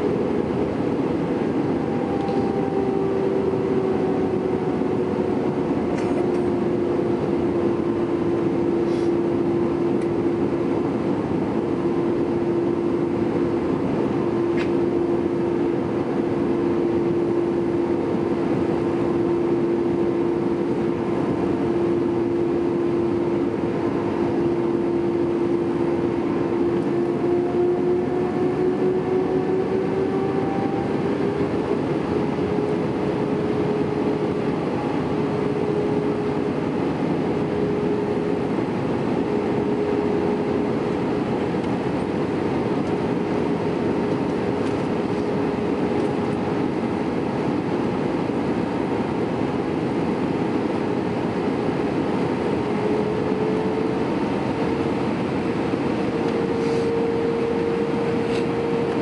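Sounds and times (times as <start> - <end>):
airplane cabin airflow and engine hum: 0.0 - 59.0.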